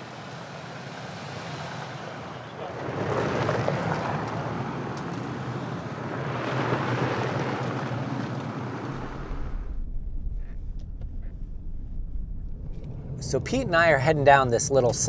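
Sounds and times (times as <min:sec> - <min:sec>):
tyres on gravel road: 0:00.0 - 0:15.0
low engine rumble: 0:02.2 - 0:15.0.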